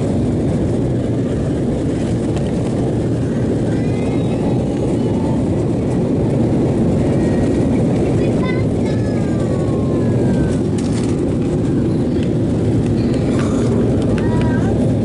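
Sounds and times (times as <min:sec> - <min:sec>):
jet engines roaring: 0:00.0 - 0:15.0
rushing air: 0:00.0 - 0:15.0.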